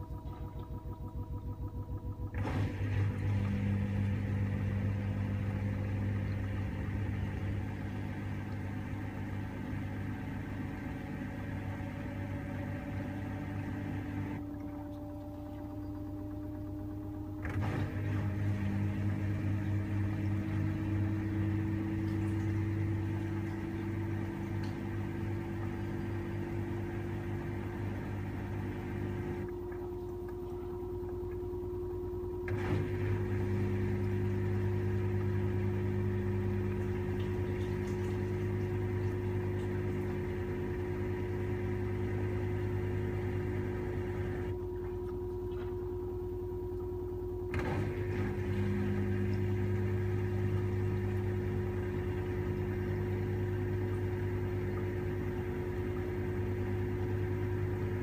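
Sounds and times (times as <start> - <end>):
drain pump hum: 0.0 - 58.0
washing machine spin whine: 0.0 - 58.0.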